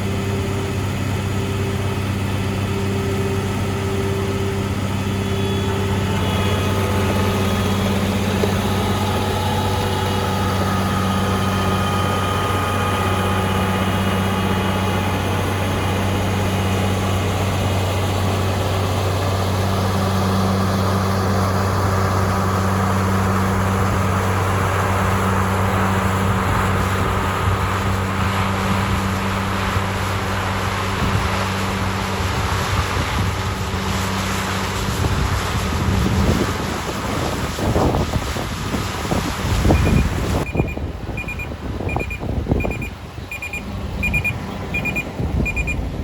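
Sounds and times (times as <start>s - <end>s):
high-pitched machinery whines: 0.0s - 35.7s, 39.1s - 45.9s
deep diesel engine hum: 0.0s - 46.0s
steady rushing noise: 0.0s - 46.0s.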